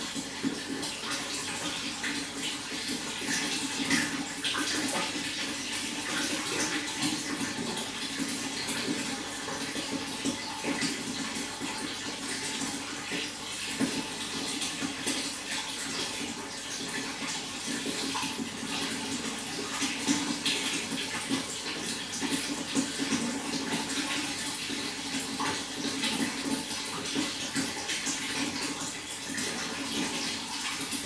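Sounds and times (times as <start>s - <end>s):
running water splashing: 0.0s - 31.0s.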